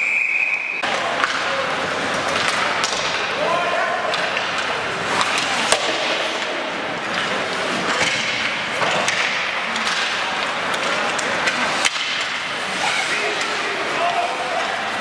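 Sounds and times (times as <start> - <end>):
hockey stick hitting puck: 0.8 - 15.0
skates on ice: 0.8 - 15.0
faint voices: 0.9 - 15.0.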